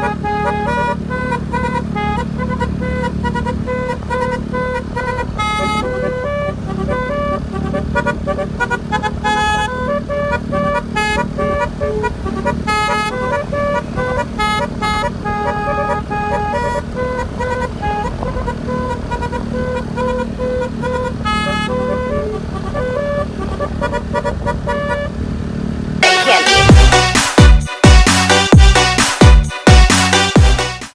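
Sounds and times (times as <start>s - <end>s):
horn playing fast melody: 0.0s - 25.2s, 26.0s - 30.9s.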